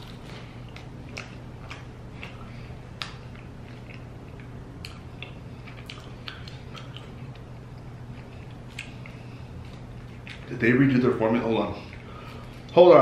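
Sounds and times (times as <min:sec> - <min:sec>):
close-up crunchy chewing: 0:00.0 - 0:10.6
low steady hum: 0:00.0 - 0:13.0.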